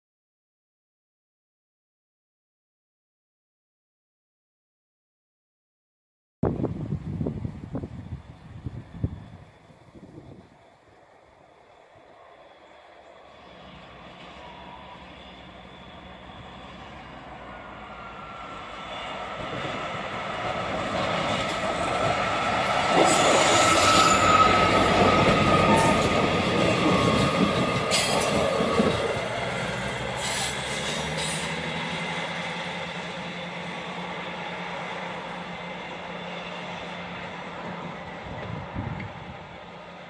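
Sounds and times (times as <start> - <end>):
diesel train passing: 6.5 - 40.0.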